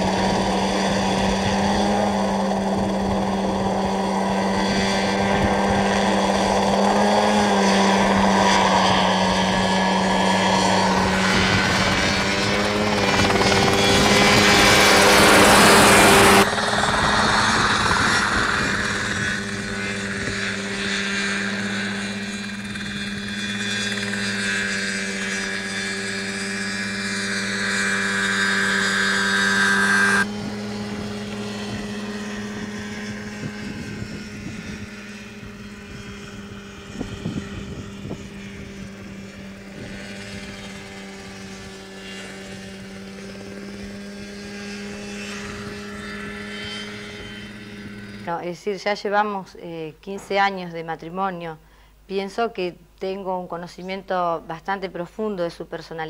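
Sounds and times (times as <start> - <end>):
helicopter engine and rotor drone: 0.0 - 51.1.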